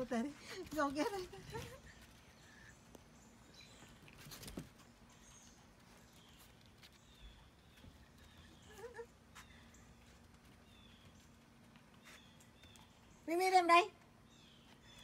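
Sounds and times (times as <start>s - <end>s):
dog paws on decking: 0.0s - 15.0s.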